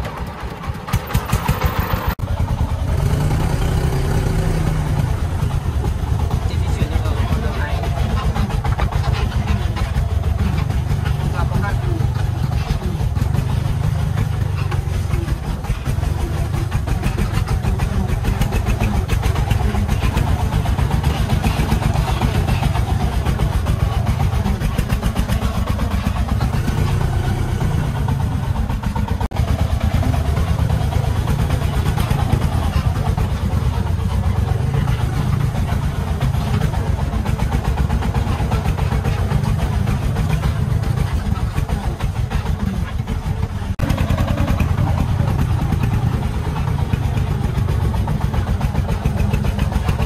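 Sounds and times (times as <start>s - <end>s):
heavy diesel engine chugging: 0.0s - 50.0s.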